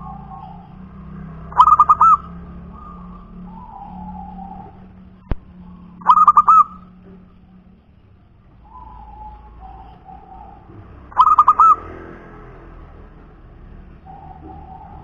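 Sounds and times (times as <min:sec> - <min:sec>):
dove cooing: 0:00.0 - 0:12.3, 0:13.8 - 0:15.0.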